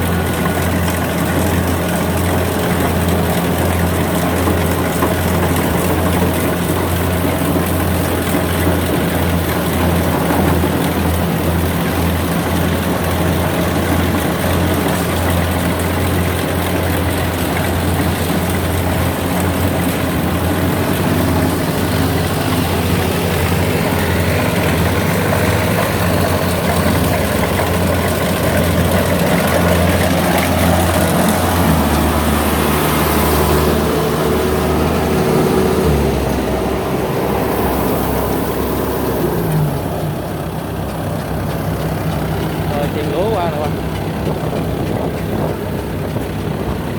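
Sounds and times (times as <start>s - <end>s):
diesel engine humming: 0.0s - 46.9s.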